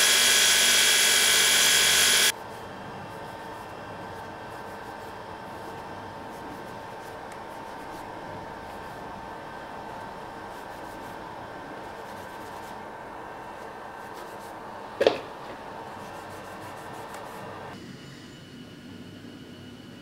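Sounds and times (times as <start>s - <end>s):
workshop machine hum: 0.0s - 20.0s.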